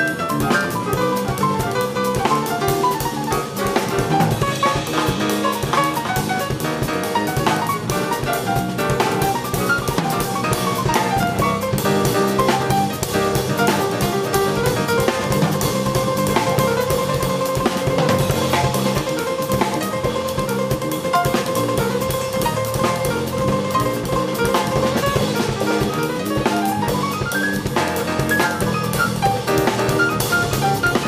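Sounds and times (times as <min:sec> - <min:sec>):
busy drum kit: 0:00.0 - 0:31.0
grand piano quick runs: 0:00.0 - 0:31.0.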